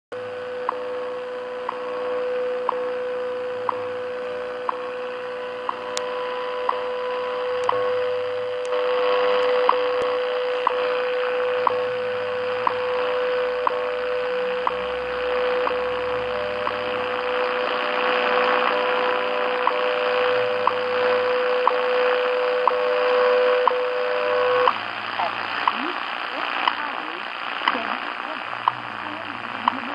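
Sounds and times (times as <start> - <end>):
shortwave static: 0.1 - 29.9
steady audio tone: 0.1 - 29.9
time signal ticks: 0.6 - 0.8, 1.6 - 1.9, 2.5 - 3.0, 3.6 - 4.0, 4.6 - 23.9, 24.6 - 28.0, 28.6 - 29.9.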